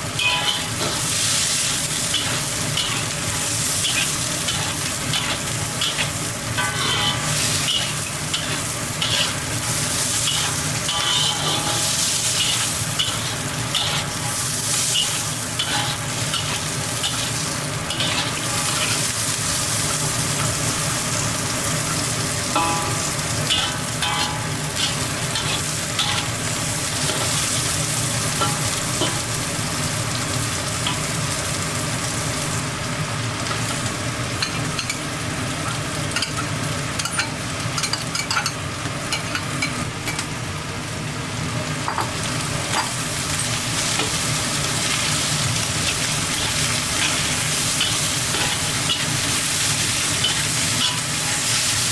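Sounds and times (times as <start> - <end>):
food sizzling in a pan: 0.0 - 51.9.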